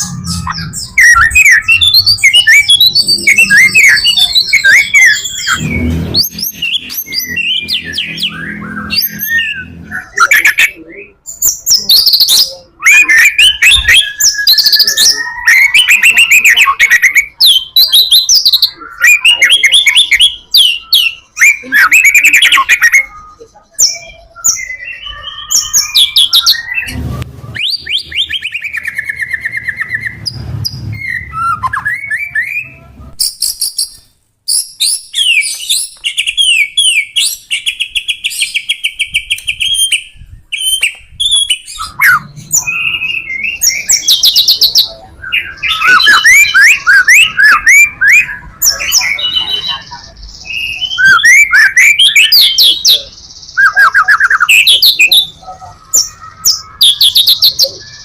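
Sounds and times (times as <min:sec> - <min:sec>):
songbird singing trills and whistles: 0:00.0 - 0:58.0.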